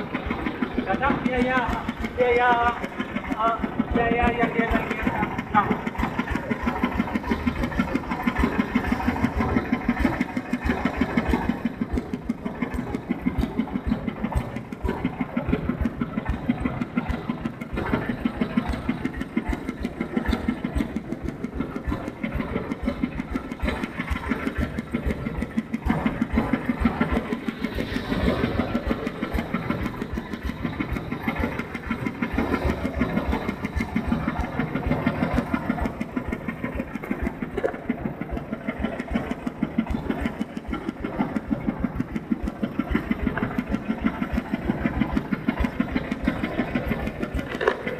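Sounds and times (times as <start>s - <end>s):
milling machine engine running: 0.0s - 47.9s.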